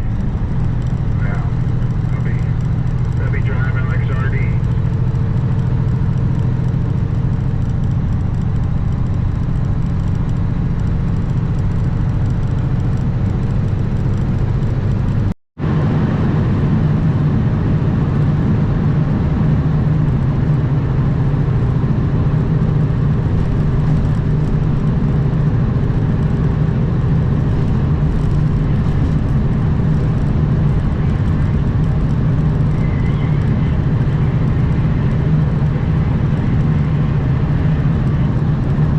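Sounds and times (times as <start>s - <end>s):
diesel truck engine droning: 0.0s - 38.9s
road and wind noise: 0.0s - 38.9s.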